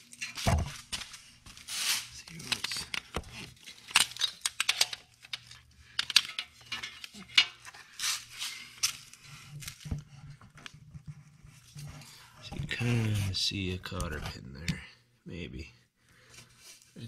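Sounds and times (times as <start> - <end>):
rustling handling noise: 0.0 - 14.7.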